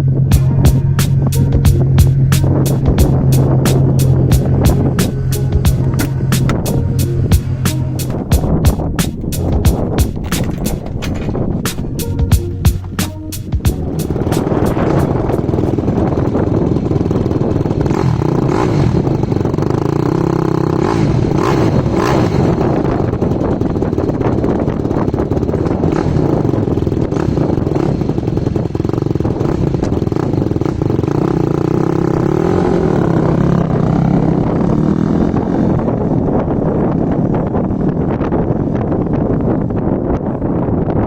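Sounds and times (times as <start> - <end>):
engine running: 0.0 - 37.1.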